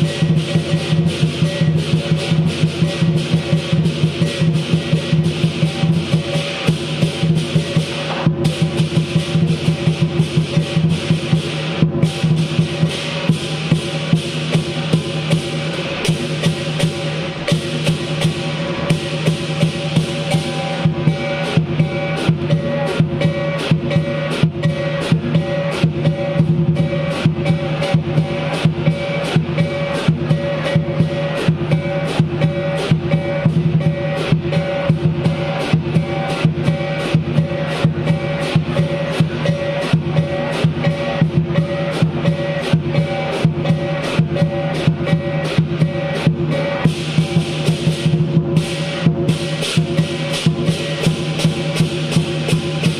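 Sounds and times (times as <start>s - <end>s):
big drum beating: 0.0s - 52.9s
gong and cymbals ringing: 0.0s - 52.9s.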